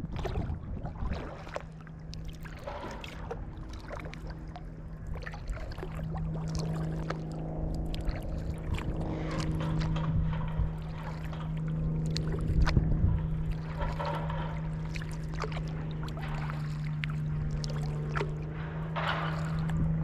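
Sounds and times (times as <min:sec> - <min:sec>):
paddle water splashing: 0:00.0 - 0:20.0
steady low hum: 0:00.0 - 0:20.0.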